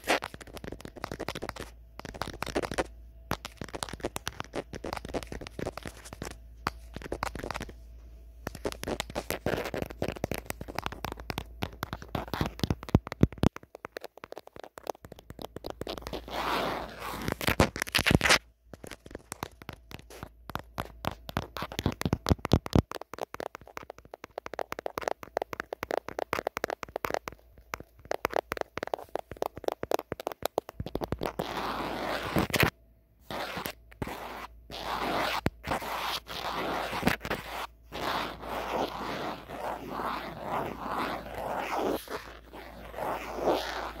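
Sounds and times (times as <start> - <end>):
fingernails scratching on phone: 0.0 - 7.8, 8.4 - 18.4, 19.0 - 32.7, 33.3 - 44.0.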